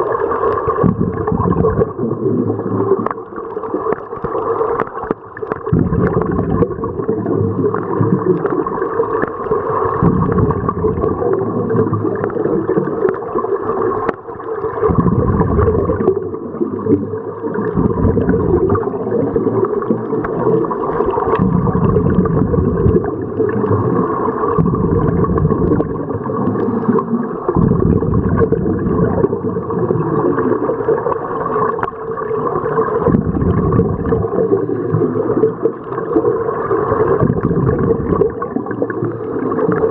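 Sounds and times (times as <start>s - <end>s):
gurgling exhaled bubbles: 0.0s - 39.9s
steady underwater rumble: 0.0s - 39.9s.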